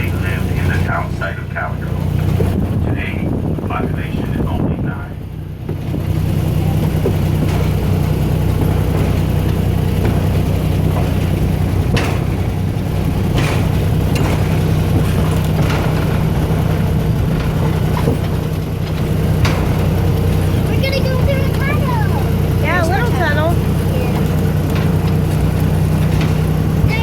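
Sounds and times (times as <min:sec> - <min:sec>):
train clicks and clanks: 0:00.0 - 0:27.0
train engine drone: 0:00.0 - 0:27.0.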